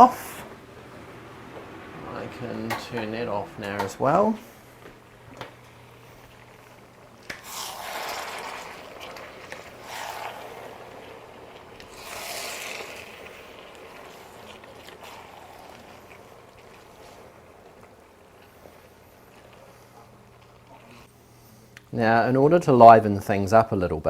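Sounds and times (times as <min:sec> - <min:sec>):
utensil scraping cooking pot: 0:00.0 - 0:21.1.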